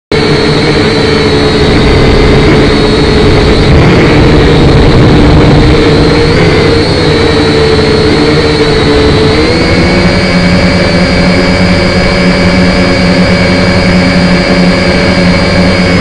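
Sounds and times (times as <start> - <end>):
drone motors buzzing whine: 0.1 - 16.0.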